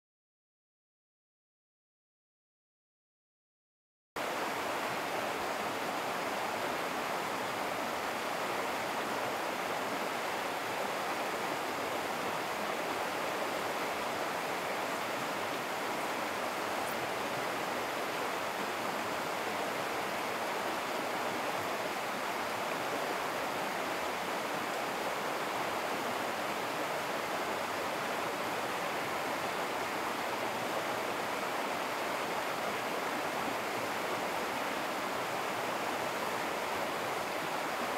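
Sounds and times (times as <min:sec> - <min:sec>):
river water rushing: 0:04.2 - 0:37.9.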